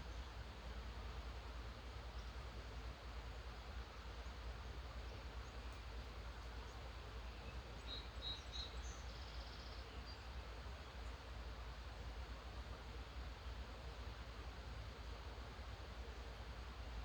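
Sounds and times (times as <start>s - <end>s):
background hiss and rumble: 0.0s - 17.0s.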